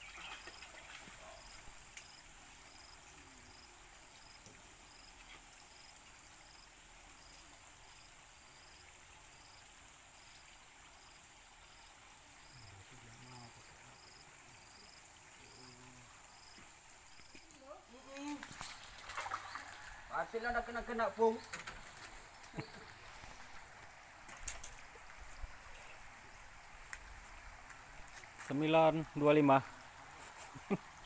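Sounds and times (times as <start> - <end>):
insects chirping: 0.0 - 31.0
steady high hiss: 0.0 - 31.0.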